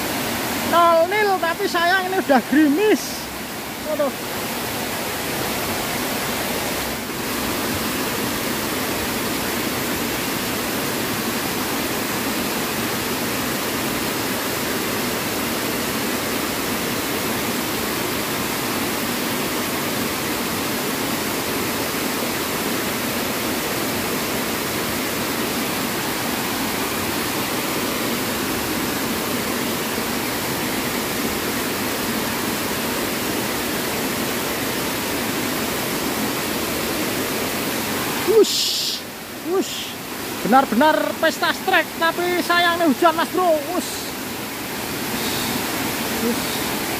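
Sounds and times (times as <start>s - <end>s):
water rushing over weir: 0.0s - 46.9s.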